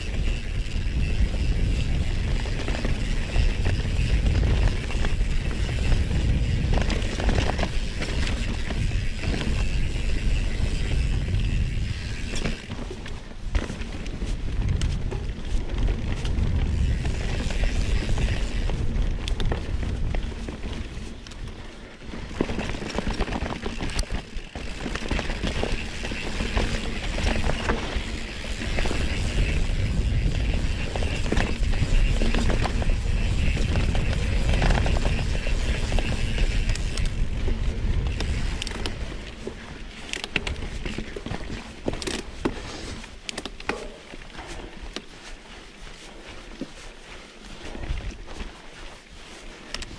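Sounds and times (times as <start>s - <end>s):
wind buffeting microphone: 0.0s - 43.0s
bike clicking and rattling: 0.0s - 49.9s.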